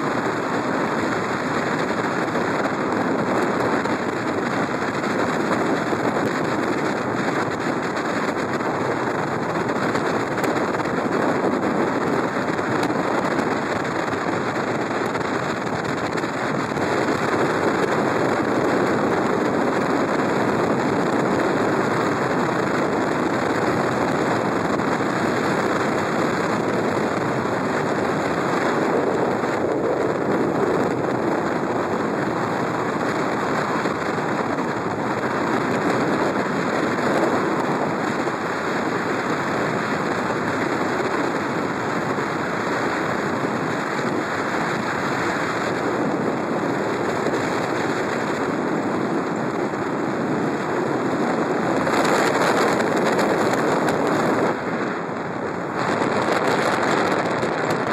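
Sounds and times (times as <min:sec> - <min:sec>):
road and wind noise: 0:00.0 - 0:57.9.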